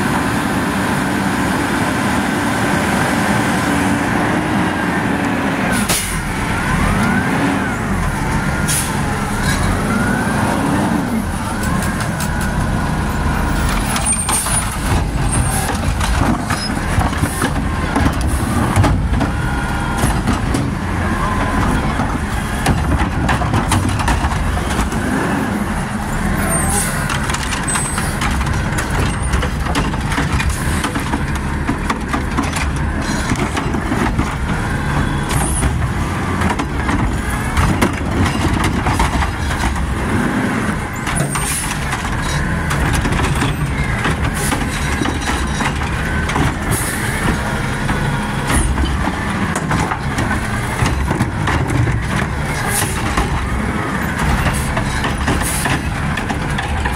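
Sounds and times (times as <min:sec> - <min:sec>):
garbage truck engine revving: 0:00.0 - 0:56.9.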